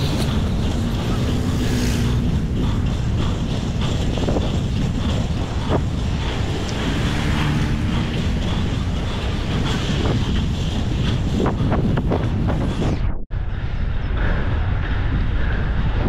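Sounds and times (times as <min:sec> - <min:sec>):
skate wheels rumbling on asphalt: 0:00.0 - 0:12.9
wind buffeting microphone: 0:00.0 - 0:16.0.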